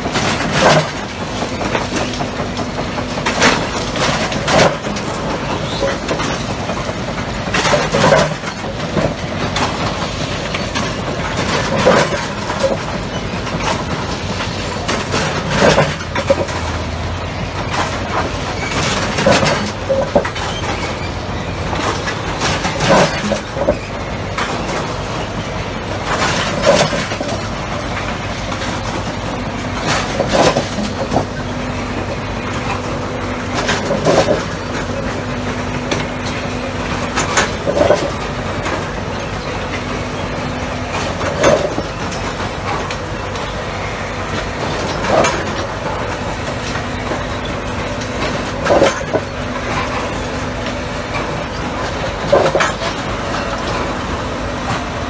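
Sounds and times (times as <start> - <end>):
machinery running: 0.0 - 55.0.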